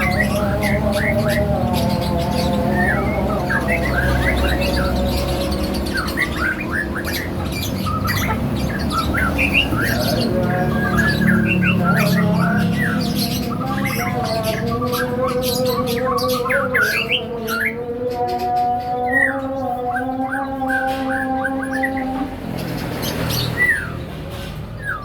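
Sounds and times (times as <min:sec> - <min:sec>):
songbirds chirping and squawking: 0:00.0 - 0:25.0.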